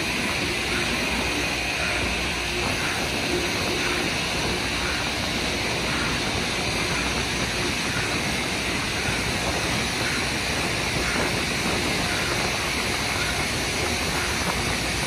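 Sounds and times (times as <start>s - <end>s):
rail grinder hissing: 0.0s - 15.0s.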